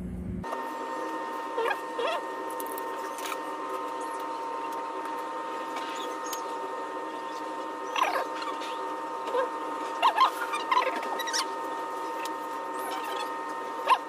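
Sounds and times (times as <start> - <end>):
whining hum: 0.0 - 14.0.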